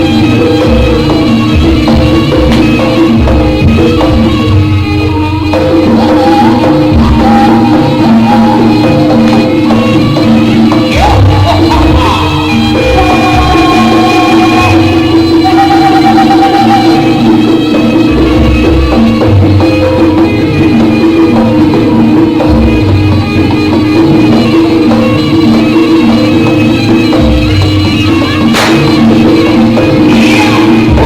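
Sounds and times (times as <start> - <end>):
gamelan ensemble playing: 0.0 - 31.0
repeating drum pattern: 0.0 - 31.0
wavering melody line: 0.0 - 31.0.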